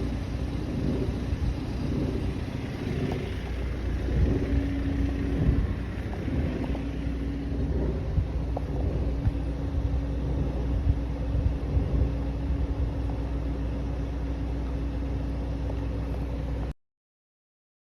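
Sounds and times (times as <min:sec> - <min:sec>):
car engine running: 0:00.0 - 0:16.8.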